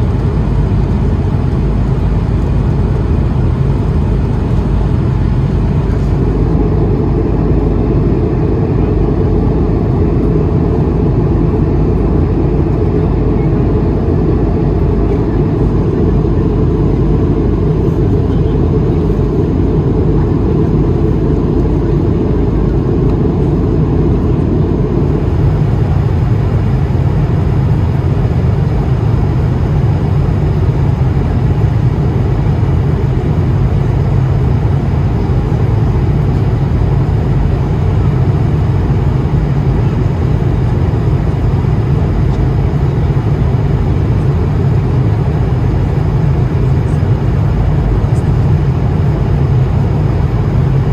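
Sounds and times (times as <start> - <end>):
airliner cabin noise: 0.0 - 50.9.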